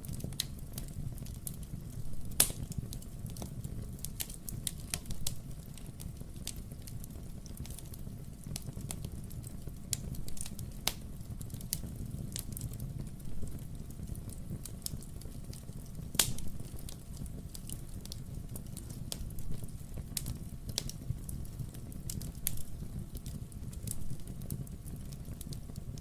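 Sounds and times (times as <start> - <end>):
logs crackling and popping: 0.0 - 26.0
low rumble of flame: 0.0 - 26.0.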